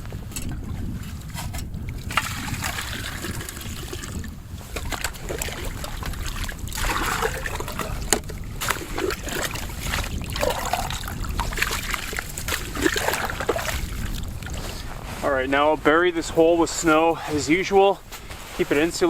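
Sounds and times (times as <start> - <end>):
water sloshing in ice hole: 0.3 - 17.5.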